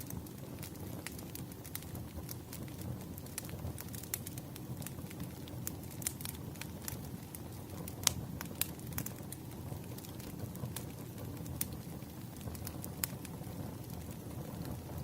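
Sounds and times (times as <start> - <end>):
wood fire crackling: 0.0 - 15.0
sharp pops of burning logs: 0.1 - 14.2.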